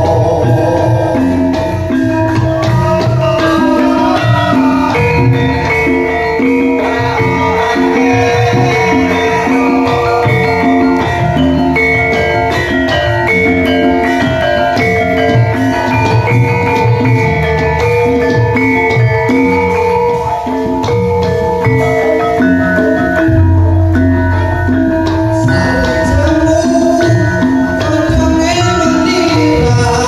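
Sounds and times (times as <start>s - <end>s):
gamelan playing: 0.0s - 30.0s.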